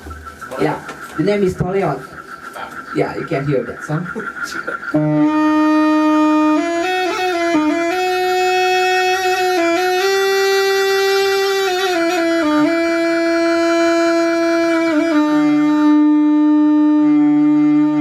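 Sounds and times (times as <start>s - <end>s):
bamboo reed pipe melody: 0.0s - 18.0s.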